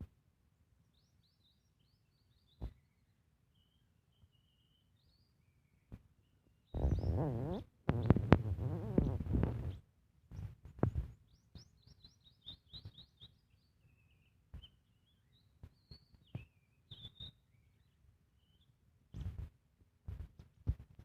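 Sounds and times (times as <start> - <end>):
small bird chirping: 0.9 - 19.4.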